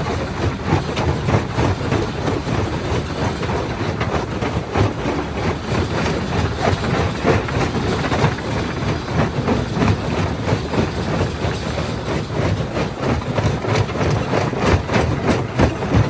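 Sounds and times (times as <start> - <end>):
jaw crusher running: 0.0 - 16.0
stone knocking in crusher: 0.0 - 16.0.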